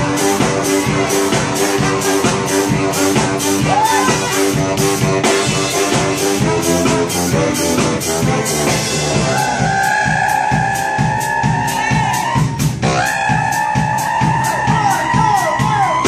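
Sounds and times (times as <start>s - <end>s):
brass band playing: 0.0s - 16.0s
drum kit fast beat: 0.0s - 16.0s
horn long high note: 0.0s - 16.0s.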